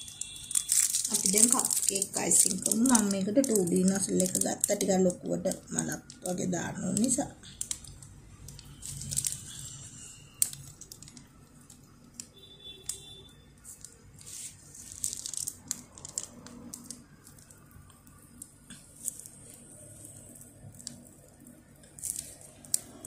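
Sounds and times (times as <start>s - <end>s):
plastic bag crinkling: 0.0s - 23.0s.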